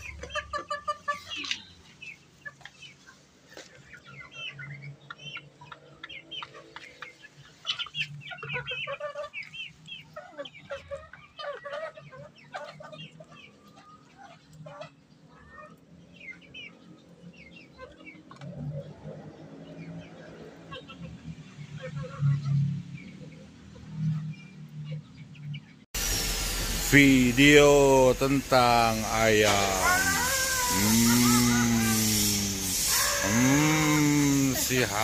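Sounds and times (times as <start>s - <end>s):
chickens clucking: 0.0s - 25.8s, 27.1s - 35.0s.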